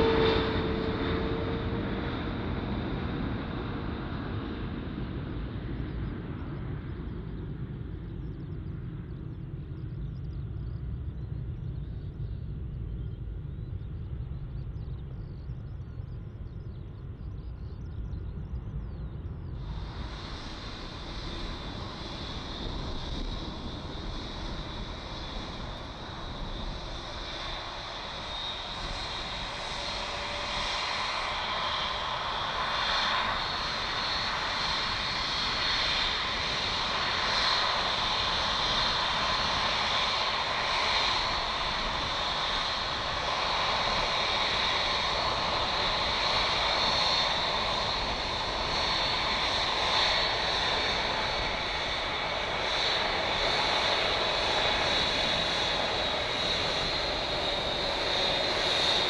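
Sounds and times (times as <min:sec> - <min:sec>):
airliner engine rumble: 0:00.0 - 0:59.0
faint aircraft engine whine: 0:00.0 - 0:59.0.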